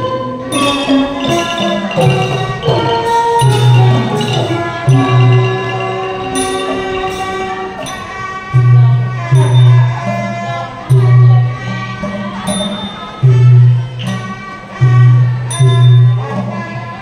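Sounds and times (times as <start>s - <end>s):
ringing gong circles: 0.0s - 16.5s
mallet xylophones: 0.0s - 17.0s.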